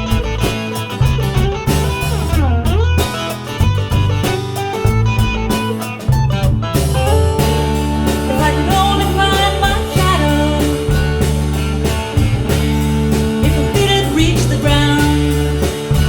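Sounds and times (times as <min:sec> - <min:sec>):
bass and drums: 0:00.0 - 0:16.0
electric guitar: 0:00.0 - 0:16.0.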